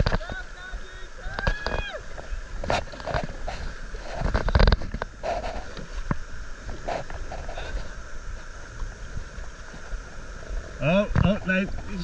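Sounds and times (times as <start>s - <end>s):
paddles splashing in water: 0.0s - 12.0s
wind rumble on microphone: 1.2s - 12.0s.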